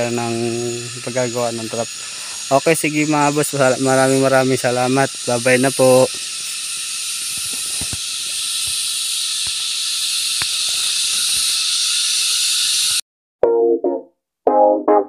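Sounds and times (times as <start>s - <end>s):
forest insects chorus: 0.0s - 13.0s.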